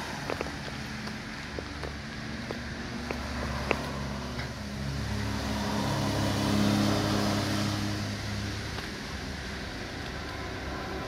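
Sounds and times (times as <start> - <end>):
vehicle motor hum: 0.0 - 11.0.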